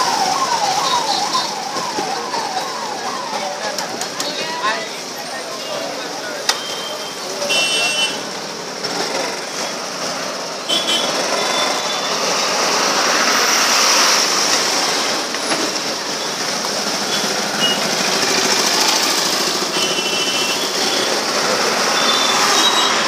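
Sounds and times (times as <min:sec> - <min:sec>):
road traffic and engine noise: 0:00.0 - 0:23.0.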